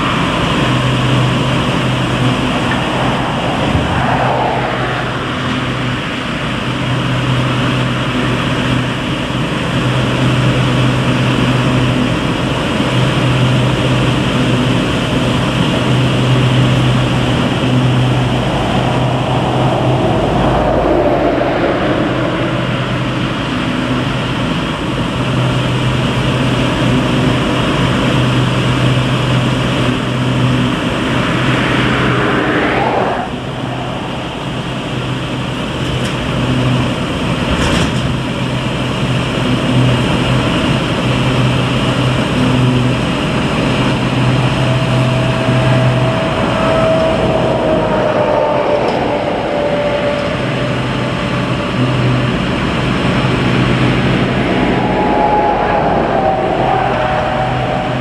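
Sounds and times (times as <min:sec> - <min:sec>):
machinery humming: 0:00.0 - 0:37.5, 0:39.0 - 0:58.0
rising mechanical whine: 0:00.0 - 0:38.1, 0:39.4 - 0:58.0.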